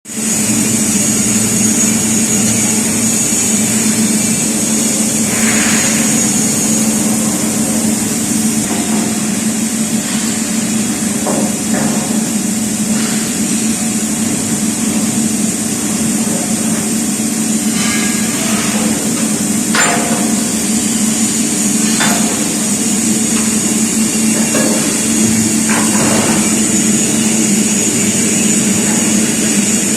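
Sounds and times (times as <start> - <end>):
drilling machine humming and whining: 0.1 - 29.9.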